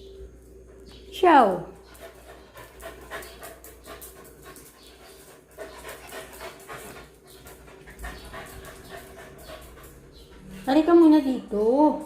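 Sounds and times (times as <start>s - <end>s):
dog panting: 1.8s - 11.8s.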